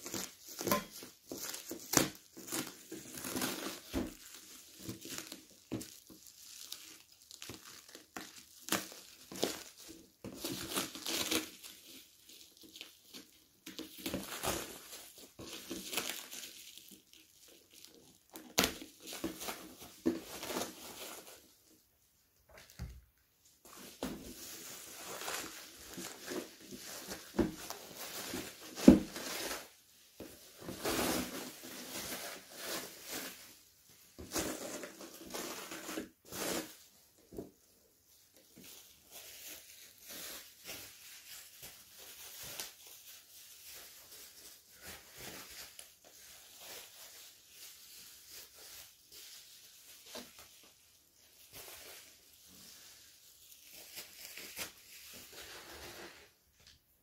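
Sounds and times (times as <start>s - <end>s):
bubble wrap rustling: 0.0s - 57.0s.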